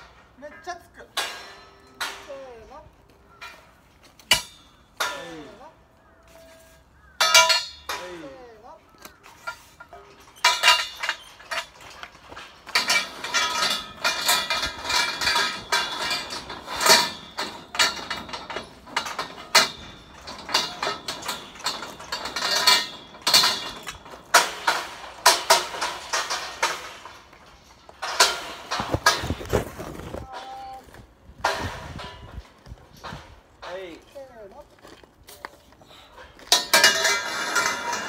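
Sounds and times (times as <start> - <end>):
metal scaffolding pipes clanking: 0.0 - 38.0.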